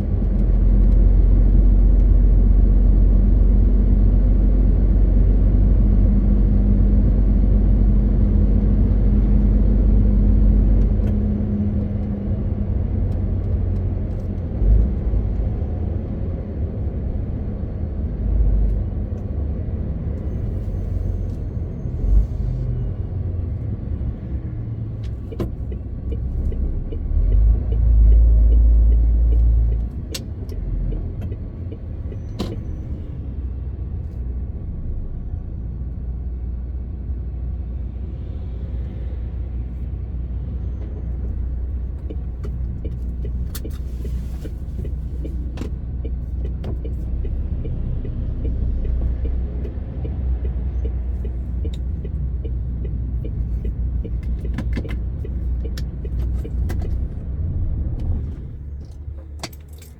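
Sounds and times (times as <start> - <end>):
road noise: 0.0 - 59.9.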